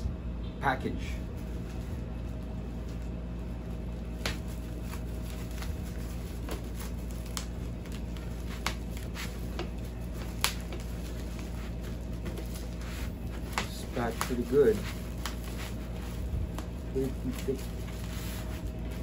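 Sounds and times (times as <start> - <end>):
steady low hum: 0.0 - 19.0
plastic wrap crinkling: 1.4 - 19.0.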